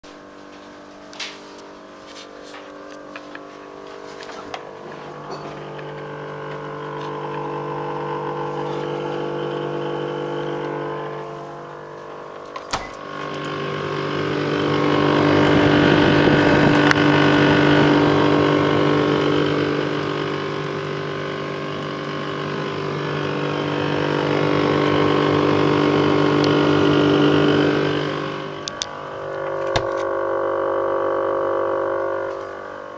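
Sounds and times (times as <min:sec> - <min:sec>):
refrigerator droning hum: 0:00.1 - 0:32.9.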